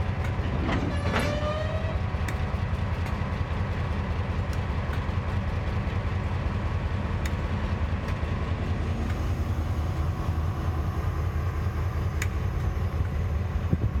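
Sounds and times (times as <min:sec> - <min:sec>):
diesel locomotive rumbling: 0:00.0 - 0:14.0.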